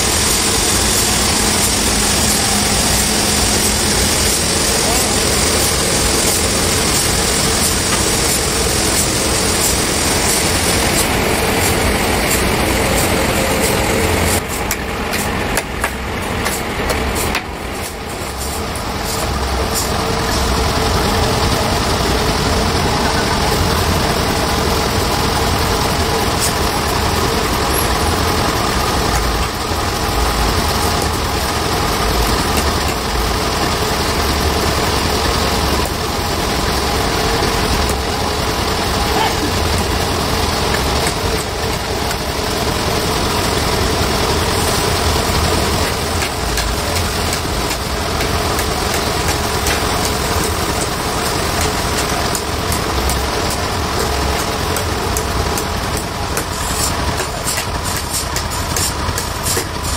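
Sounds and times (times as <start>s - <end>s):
engine running with low hum: 0.0s - 59.9s.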